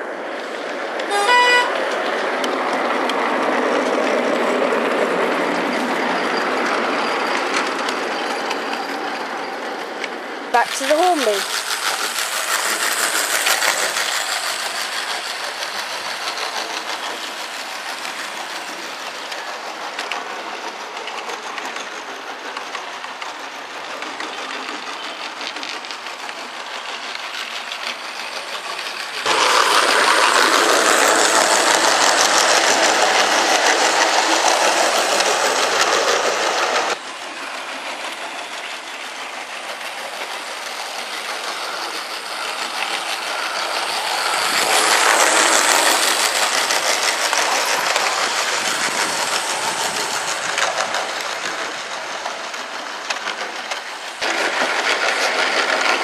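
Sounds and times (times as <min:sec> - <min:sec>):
model train wheels rattling on rails: 0:00.0 - 0:56.0.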